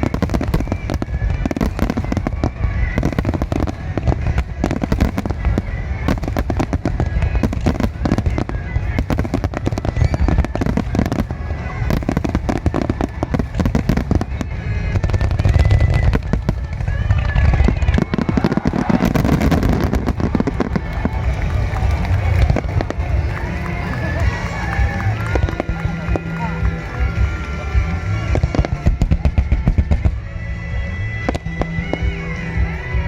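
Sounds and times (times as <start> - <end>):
fireworks bursting and crackling: 0.0 - 33.0
song over loudspeakers: 0.0 - 33.0.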